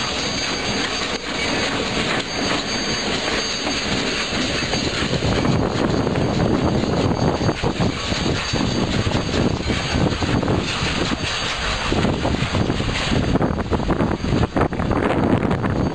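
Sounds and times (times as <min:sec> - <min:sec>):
diesel locomotive engine rumble: 0:00.0 - 0:15.9
train rolling: 0:00.0 - 0:15.9.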